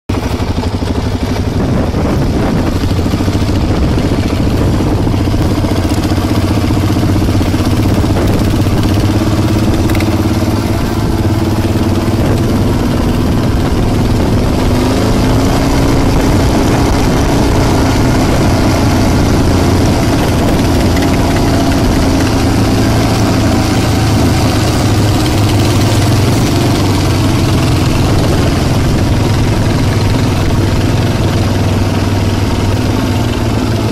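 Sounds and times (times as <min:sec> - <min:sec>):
motorcycle engine running: 0:00.0 - 0:33.9
wind rushing over microphone: 0:00.1 - 0:33.9.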